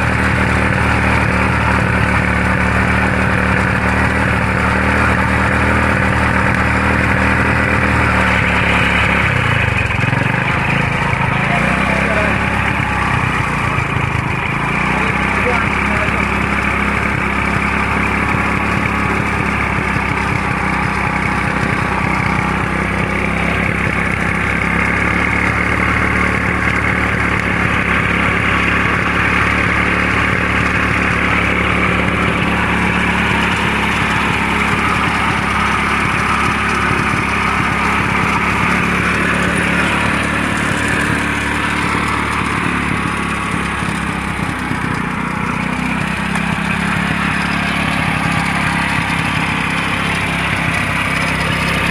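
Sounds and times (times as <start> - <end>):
motorcycle engine driving water pump: 0.0 - 51.9.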